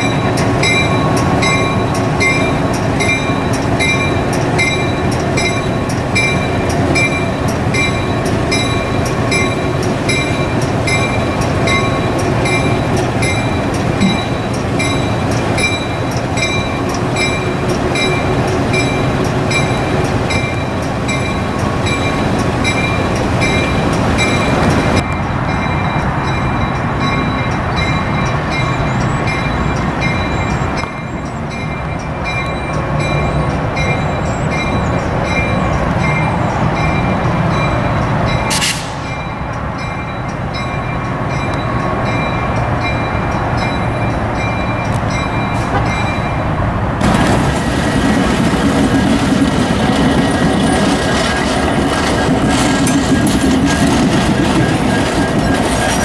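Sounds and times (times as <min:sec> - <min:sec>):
locomotive bell ringing: 0:00.0 - 0:47.4, 0:48.0 - 0:56.0
diesel locomotive engine rumble: 0:00.0 - 0:56.0.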